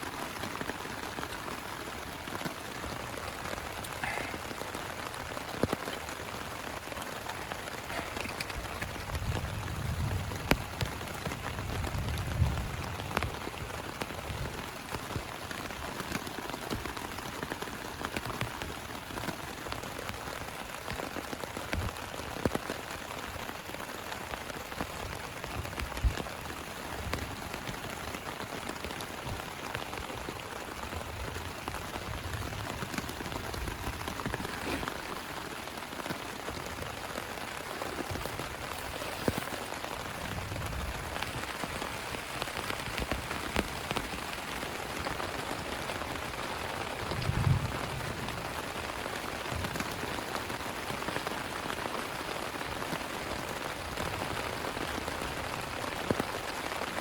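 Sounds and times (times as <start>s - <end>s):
rain on a plastic tarp: 0.0s - 57.0s.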